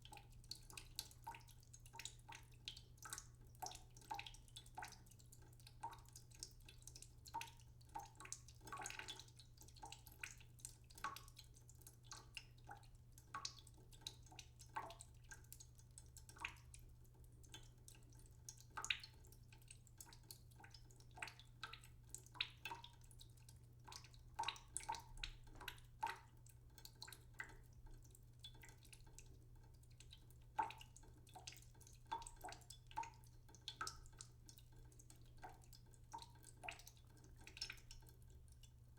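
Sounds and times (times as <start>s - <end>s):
water dripping into a pot: 0.0s - 38.9s.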